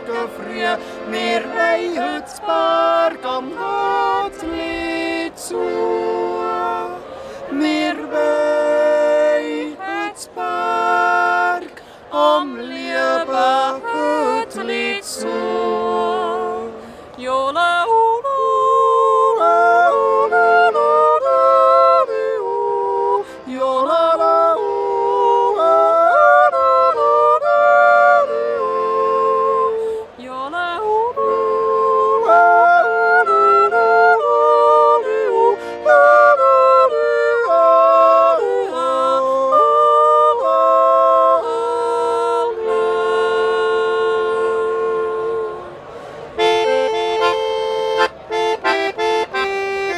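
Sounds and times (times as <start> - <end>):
woman and man yodeling: 0.0 - 45.8.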